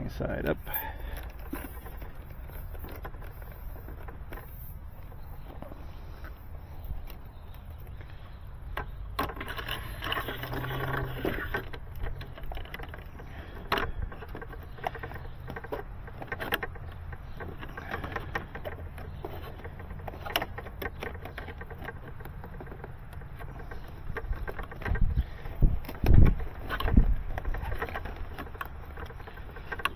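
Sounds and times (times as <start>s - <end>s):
light clicks and knocks: 0.2s - 29.9s
cable rustling: 0.4s - 29.9s.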